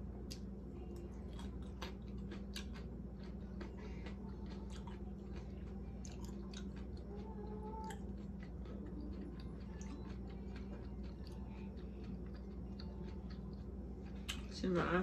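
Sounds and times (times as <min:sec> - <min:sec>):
steady low hum: 0:00.0 - 0:15.0
close chewing mouth sounds: 0:00.3 - 0:14.5.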